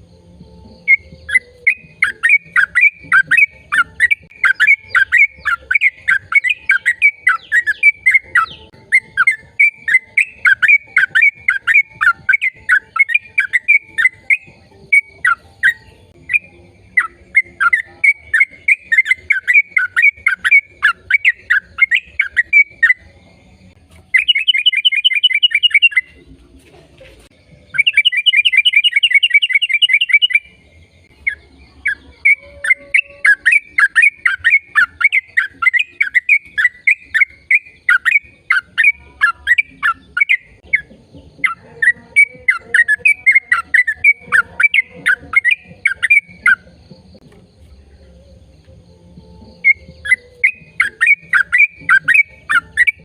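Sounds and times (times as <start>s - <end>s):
bird chirping and trilling: 0.4s - 26.3s, 27.4s - 47.2s, 49.2s - 53.0s.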